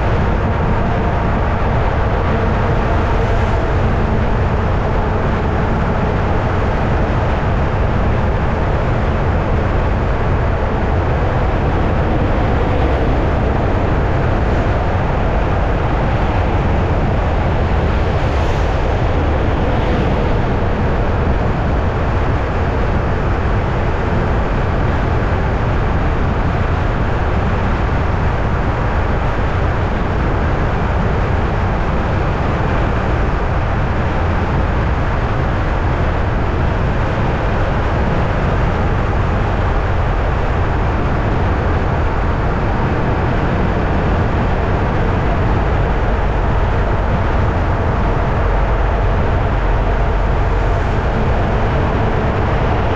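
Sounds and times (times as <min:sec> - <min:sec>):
low rumble of moving vehicle: 0:00.0 - 0:52.9.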